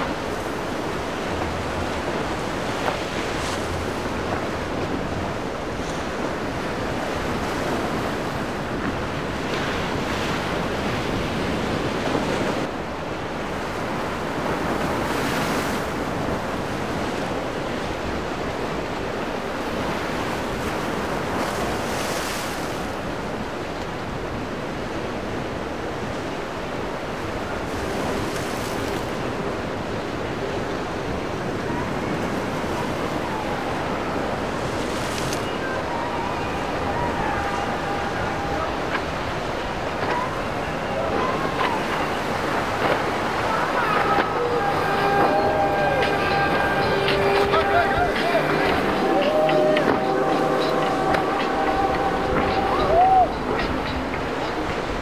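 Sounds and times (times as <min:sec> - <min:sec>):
waves breaking: 0:00.0 - 0:55.0
wind buffeting microphone: 0:00.0 - 0:55.0.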